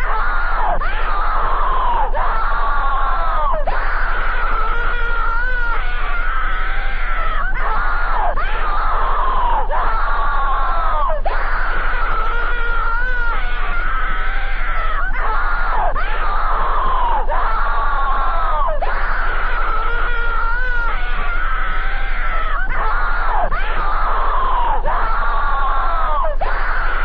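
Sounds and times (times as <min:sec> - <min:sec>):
cartoon voice screaming: 0:00.0 - 0:27.0.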